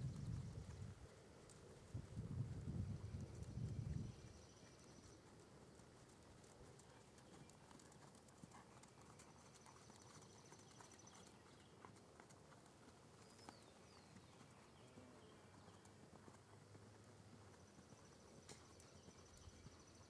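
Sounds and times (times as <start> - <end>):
hoofbeats of pony trotting on sand: 0.1 - 20.0.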